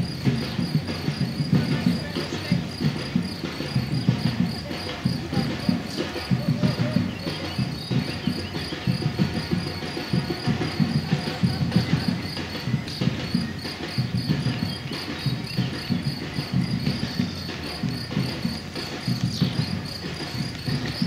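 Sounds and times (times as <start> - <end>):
running footsteps on asphalt: 0.0 - 21.0
faint high chirping: 3.8 - 21.0.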